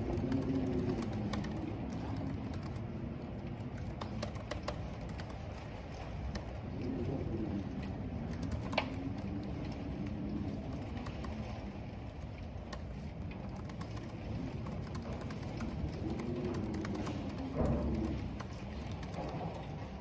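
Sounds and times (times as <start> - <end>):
rain: 0.0 - 20.0
wind moaning: 0.0 - 20.0.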